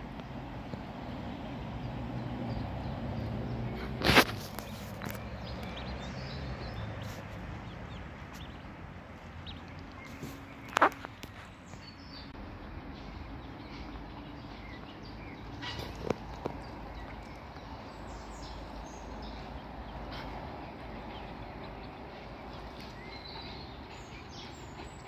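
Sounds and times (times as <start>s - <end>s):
outdoor background noise: 0.0s - 25.0s
ducklings calling: 2.5s - 25.0s.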